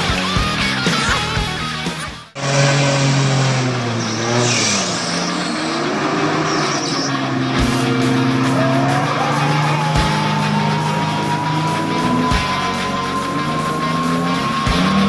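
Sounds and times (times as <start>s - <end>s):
vehicle engine under load: 2.3s - 15.0s.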